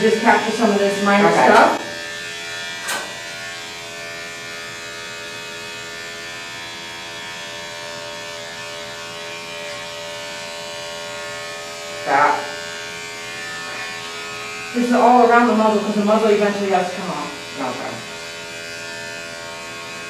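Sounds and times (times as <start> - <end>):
electric pet clipper humming: 0.0 - 20.0.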